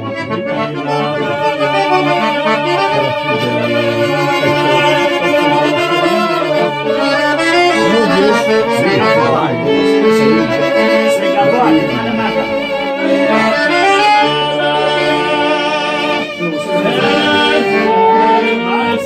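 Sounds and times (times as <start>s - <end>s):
live band music: 0.0s - 19.0s.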